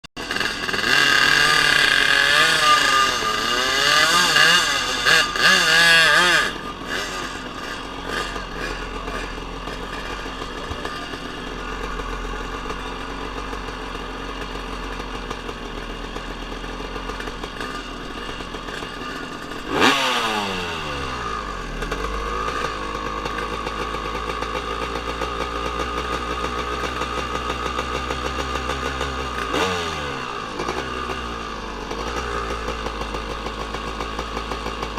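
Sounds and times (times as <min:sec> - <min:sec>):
motorcycle engines revving: 0:00.2 - 0:34.9.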